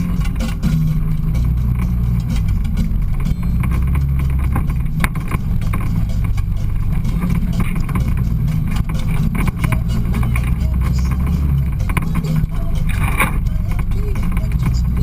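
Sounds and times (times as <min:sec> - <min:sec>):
utv engine running: 0:00.0 - 0:15.0.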